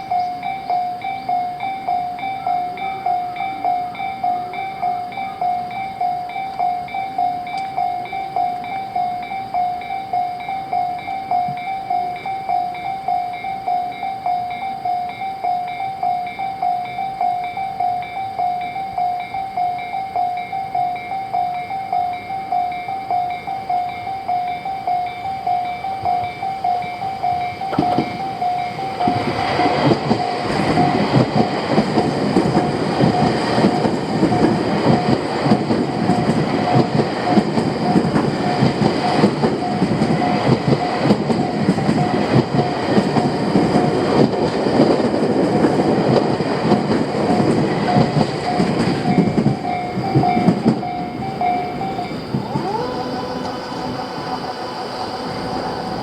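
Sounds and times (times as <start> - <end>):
level crossing warning bell: 0.0 - 56.0
train wheels clattering: 0.0 - 56.0.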